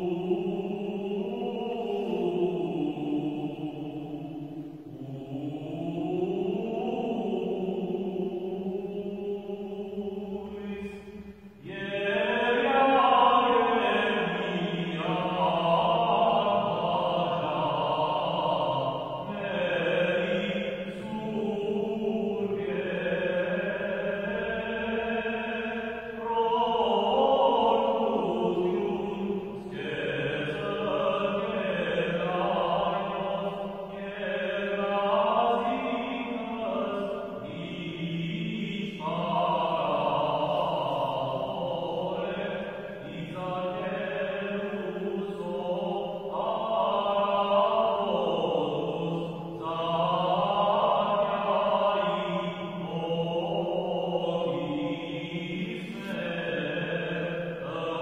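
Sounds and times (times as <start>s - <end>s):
men chanting: 0.0s - 4.2s, 5.0s - 58.0s.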